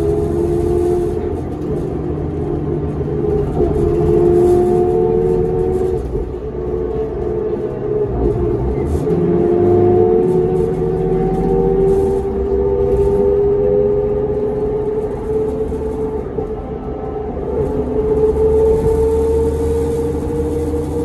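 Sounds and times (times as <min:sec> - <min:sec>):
bus interior rattles: 0:00.0 - 0:21.0
bus transmission whine: 0:00.0 - 0:21.0
low engine rumble: 0:00.0 - 0:21.0.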